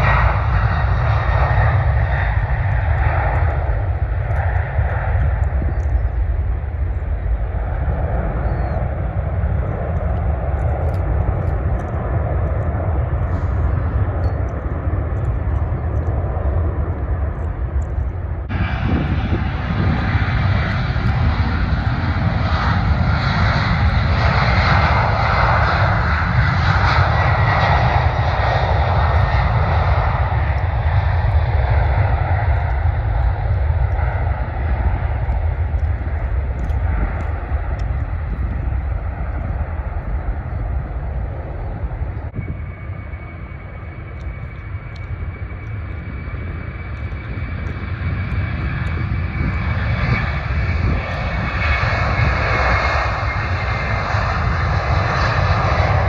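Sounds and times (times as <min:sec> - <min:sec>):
jet engine rumble: 0:00.0 - 0:56.0.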